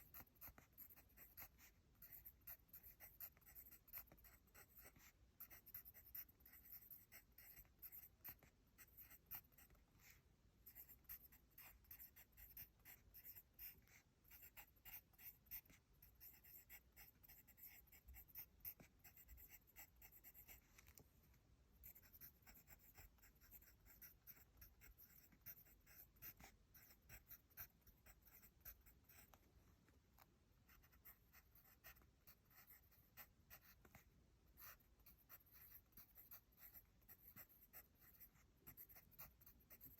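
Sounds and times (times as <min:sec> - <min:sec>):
pencil writing on paper: 0:00.0 - 0:21.0, 0:21.8 - 0:29.5, 0:30.2 - 0:39.9.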